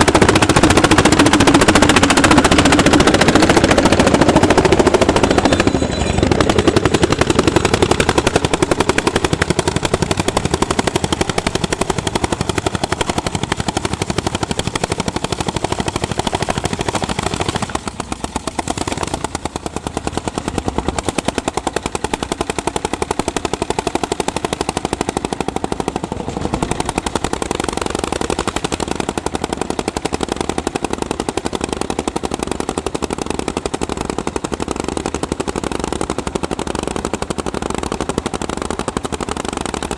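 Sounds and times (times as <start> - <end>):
tractor engine exhaust beats: 0.0 - 39.9.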